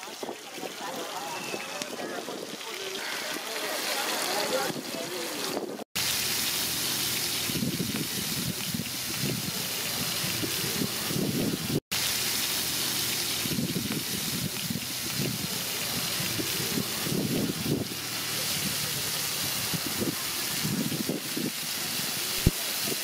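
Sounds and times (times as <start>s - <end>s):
prawns sizzling in hot oil: 0.1s - 23.0s.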